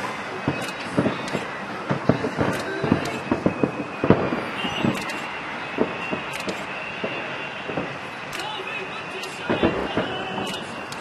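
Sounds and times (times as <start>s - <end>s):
fireworks bangs and pops: 0.0s - 11.0s
steady background rush: 0.0s - 11.0s.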